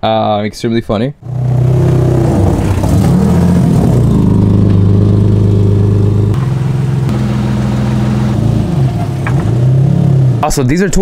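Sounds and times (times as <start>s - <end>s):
car engine idling: 1.3s - 10.5s.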